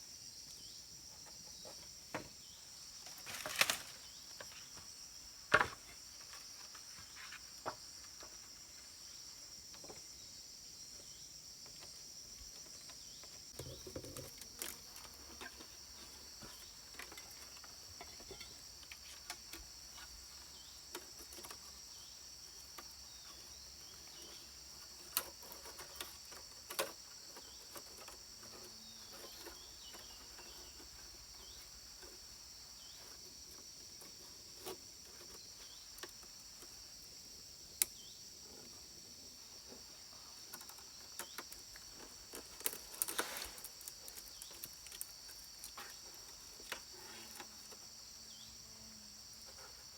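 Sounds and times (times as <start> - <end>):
insects chorus: 0.0 - 49.9.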